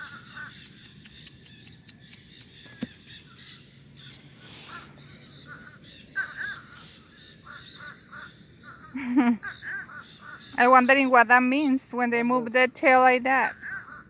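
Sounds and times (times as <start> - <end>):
crows cawing: 0.0 - 11.0, 13.4 - 14.0.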